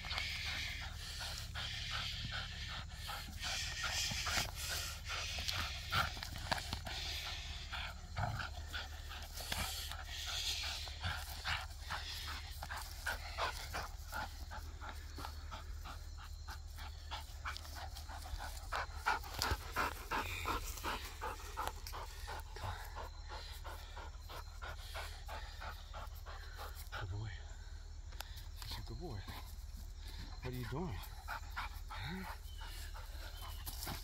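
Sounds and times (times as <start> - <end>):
dog panting quickly: 0.0 - 27.6, 28.4 - 34.0.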